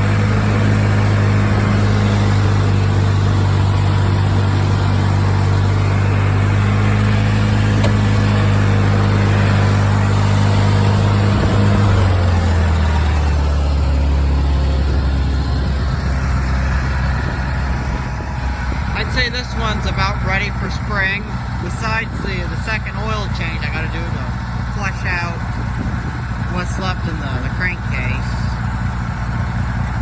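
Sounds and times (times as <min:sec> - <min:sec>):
lawn tractor engine running: 0:00.0 - 0:30.0.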